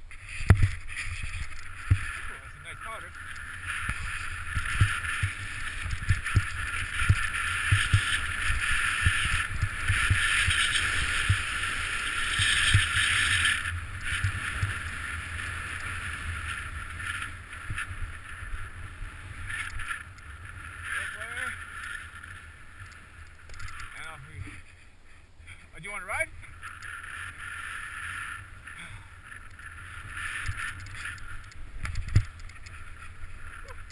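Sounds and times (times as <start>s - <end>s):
snow hissing under board edges: 0.1s - 25.2s, 25.8s - 33.9s.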